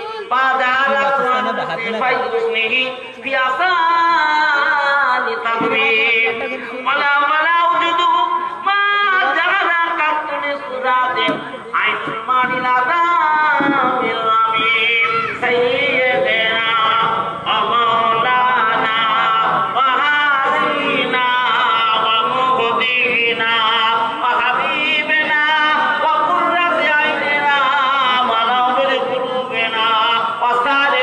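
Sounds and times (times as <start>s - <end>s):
man singing devotional song: 0.0s - 31.0s.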